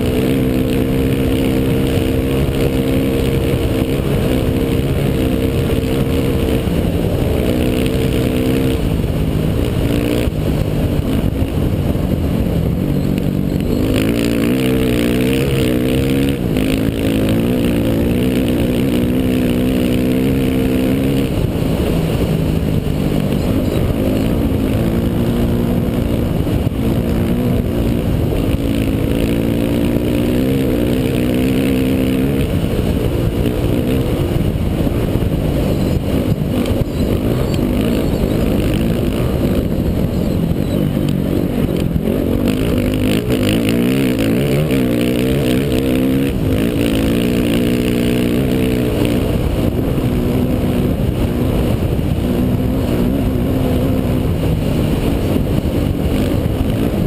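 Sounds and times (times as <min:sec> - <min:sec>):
dirt bike engine revving: 0:00.0 - 0:57.0
rough-ground rumble: 0:00.0 - 0:57.0
wind: 0:00.0 - 0:57.0.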